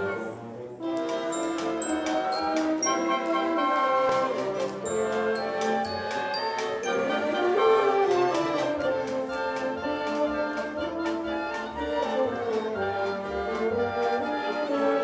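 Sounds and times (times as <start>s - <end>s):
chamber orchestra playing: 0.0s - 15.0s.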